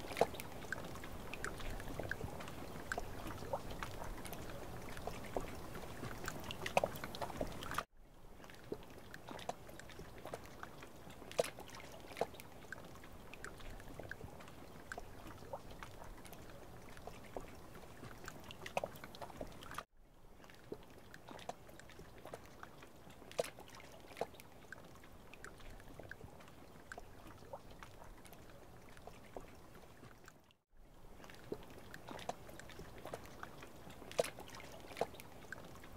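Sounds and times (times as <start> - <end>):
water drips and splashes: 0.0 - 35.9.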